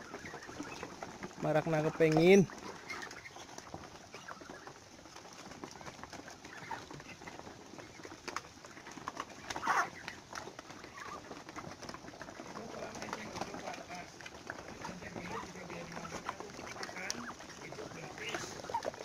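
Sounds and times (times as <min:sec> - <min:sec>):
bills clicking on feed: 0:00.0 - 0:19.0.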